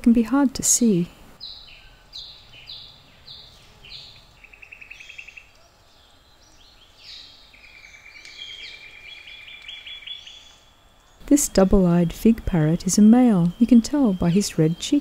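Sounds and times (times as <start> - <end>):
birds calling down-sliding notes: 0.8 - 15.0.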